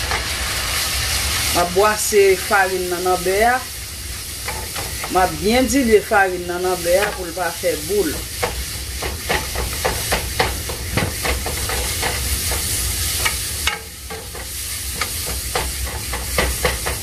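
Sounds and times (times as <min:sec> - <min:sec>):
butter and flour sizzling: 0:00.0 - 0:17.0.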